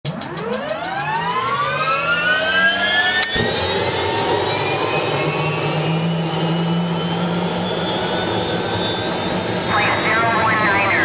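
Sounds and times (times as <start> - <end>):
helicopter turbine whine: 0.1 - 11.0.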